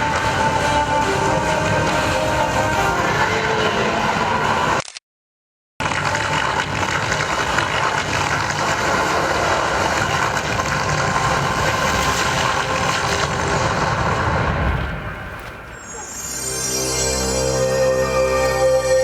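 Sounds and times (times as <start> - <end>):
rumbling sound effects over loudspeakers: 0.0 - 4.8, 5.8 - 19.0.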